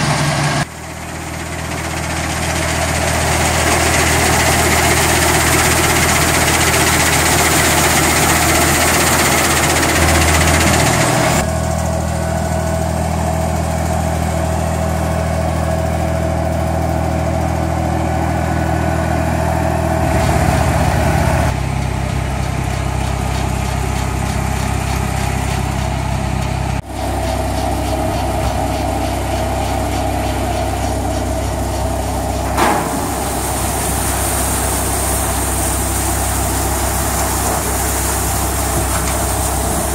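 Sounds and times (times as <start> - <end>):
harvester machinery running: 0.0 - 39.9
tractor engine running: 0.0 - 39.9.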